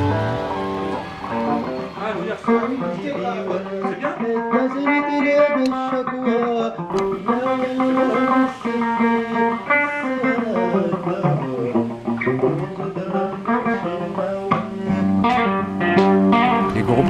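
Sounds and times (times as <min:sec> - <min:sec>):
bass guitar: 0:00.0 - 0:17.0
plucked electric guitar: 0:00.0 - 0:17.0.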